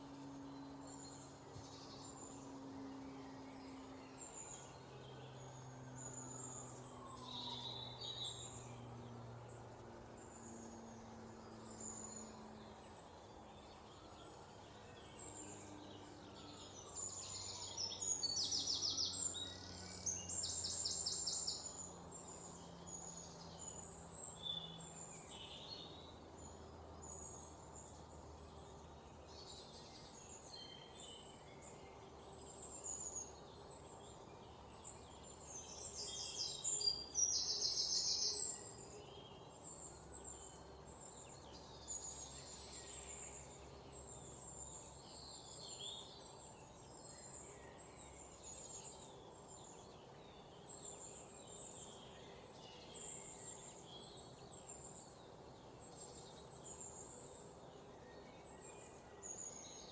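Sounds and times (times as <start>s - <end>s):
faint background hiss: 0.0s - 59.9s
small birds chirping: 0.0s - 59.9s.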